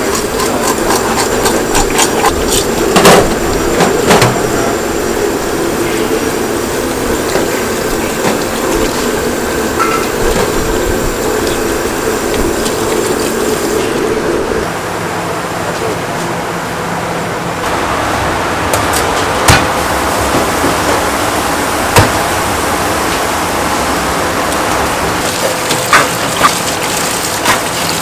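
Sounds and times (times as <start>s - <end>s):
running water: 0.0s - 14.8s, 19.8s - 28.0s.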